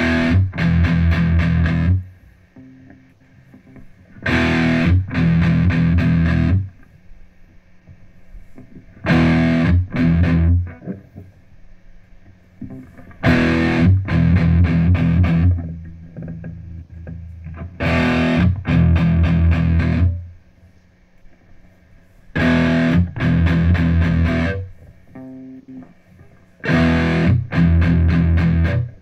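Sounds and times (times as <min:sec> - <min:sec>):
soft guitar notes: 0:00.0 - 0:06.8, 0:08.6 - 0:11.3, 0:12.2 - 0:20.3, 0:22.4 - 0:29.0
electric guitar riff: 0:00.0 - 0:06.9, 0:08.5 - 0:11.3, 0:12.6 - 0:20.4, 0:22.3 - 0:29.0.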